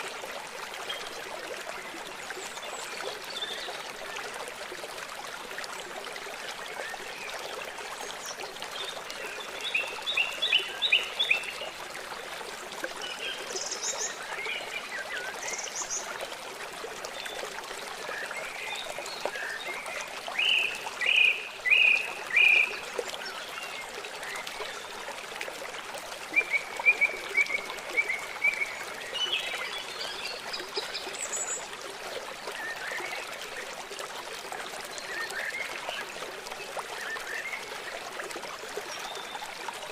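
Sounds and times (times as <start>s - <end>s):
forest stream running water: 0.0s - 39.9s.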